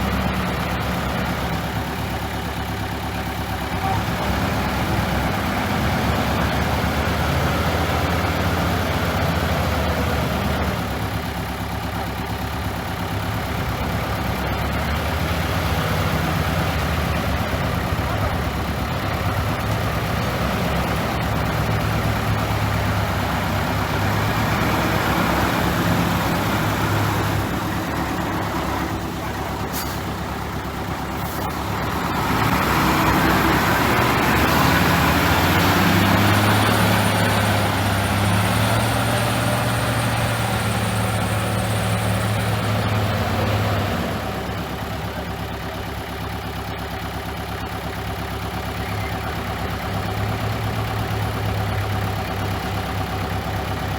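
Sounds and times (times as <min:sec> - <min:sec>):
heavy diesel engine under load: 0:00.0 - 0:53.9.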